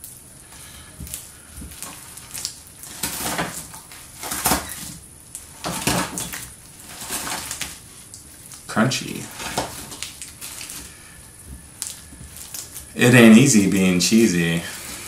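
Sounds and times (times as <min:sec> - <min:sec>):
cheese balls crunching in slime: 0:00.0 - 0:15.0.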